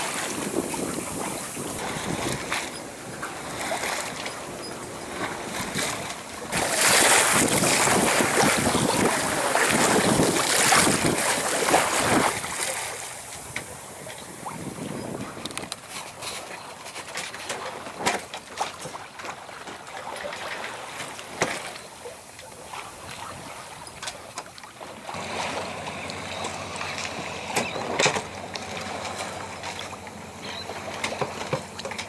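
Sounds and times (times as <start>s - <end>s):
wind and water noise: 0.0s - 32.0s.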